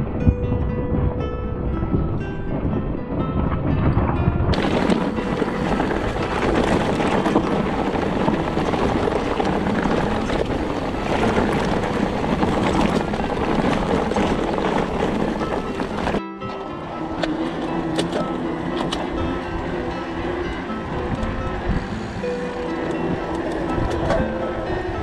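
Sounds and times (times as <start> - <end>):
wind noise on microphone: 0.0 - 25.0
bike tyres rumbling: 2.8 - 25.0
bike rattling on rough ground: 4.5 - 25.0.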